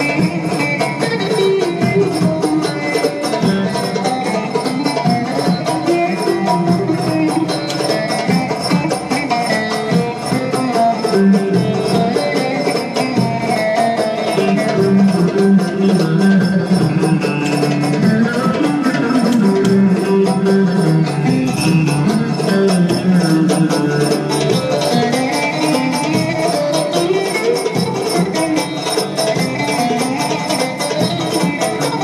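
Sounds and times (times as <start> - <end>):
long-necked lute fast plucking: 0.0 - 32.0.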